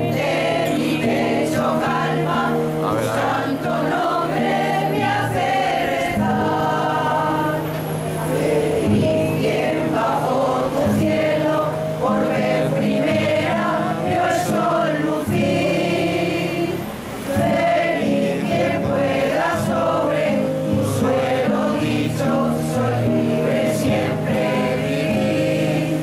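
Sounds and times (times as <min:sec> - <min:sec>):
small guitar: 0:00.0 - 0:26.0
women's choir singing: 0:00.0 - 0:26.0.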